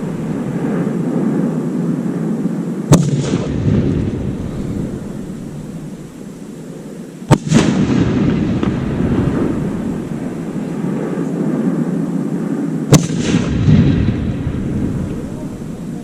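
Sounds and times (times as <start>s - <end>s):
fireworks bangs: 0.0s - 16.0s
rolling echo: 0.0s - 16.0s
steady low rumble: 0.0s - 16.0s.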